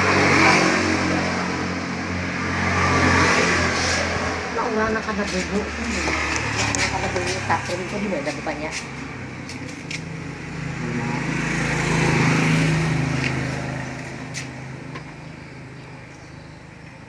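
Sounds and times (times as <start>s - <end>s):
vehicle engine passing by: 0.0s - 16.1s.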